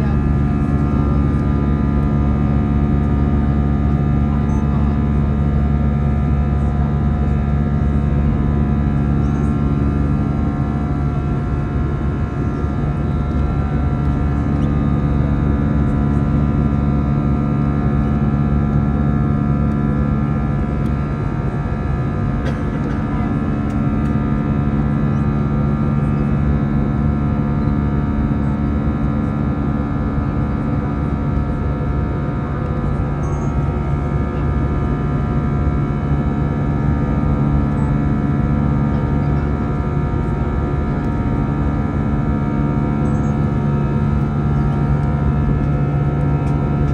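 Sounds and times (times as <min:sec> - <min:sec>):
jet engine drone in cabin: 0:00.0 - 0:46.9
steady engine tones: 0:00.0 - 0:46.9.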